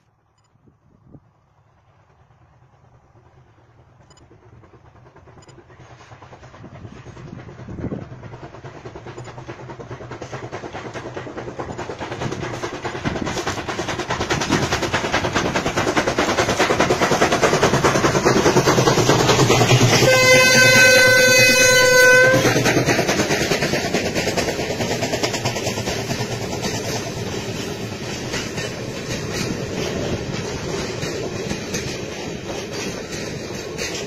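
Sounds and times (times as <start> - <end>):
steam locomotive exhaust beats: 0.2 - 34.0.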